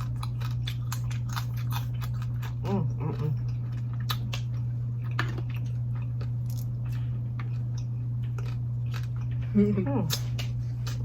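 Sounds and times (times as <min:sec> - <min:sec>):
seafood being cracked and chewed: 0:00.0 - 0:09.4, 0:10.1 - 0:11.0
low hum: 0:00.0 - 0:11.0.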